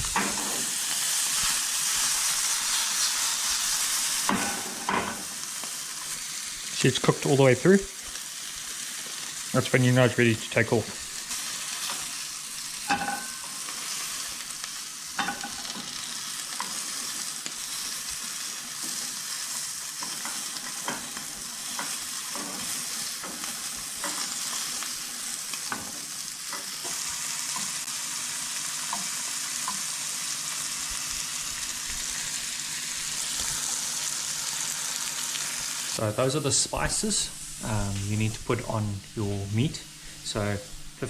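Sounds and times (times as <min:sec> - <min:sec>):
meat sizzling in a frying pan: 0:00.0 - 0:41.0.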